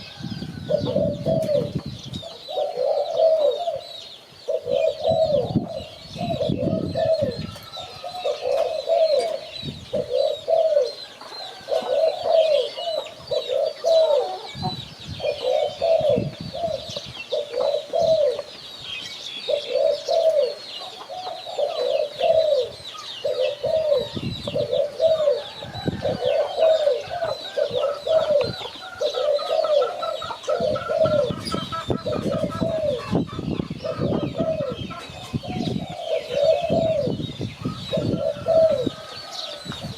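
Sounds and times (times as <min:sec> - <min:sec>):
dove cooing: 0:00.0 - 0:18.6, 0:19.4 - 0:39.9
small birds twittering: 0:00.0 - 0:39.9.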